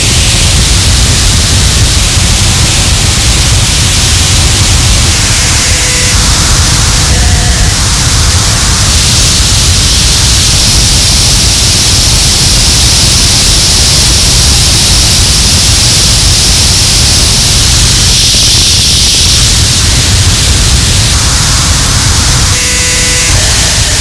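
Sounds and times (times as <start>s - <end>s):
distorted static noise music: 0.0s - 24.0s.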